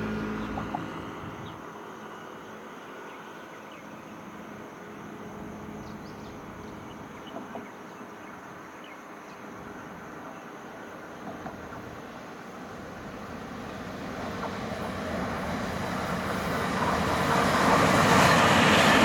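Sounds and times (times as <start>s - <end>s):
distant electric train rumble: 0.0s - 19.0s.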